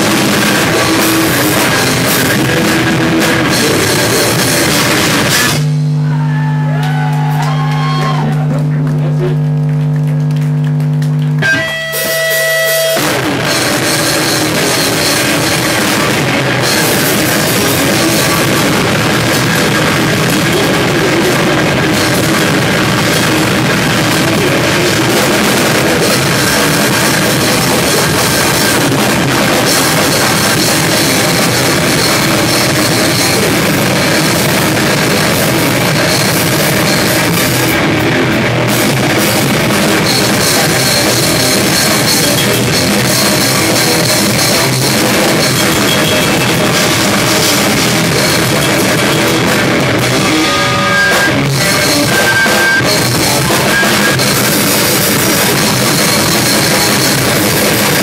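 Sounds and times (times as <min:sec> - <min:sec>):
drum kit with crashing cymbals: 0:00.0 - 0:06.6, 0:11.4 - 0:58.0
distorted electric guitar: 0:00.0 - 0:58.0.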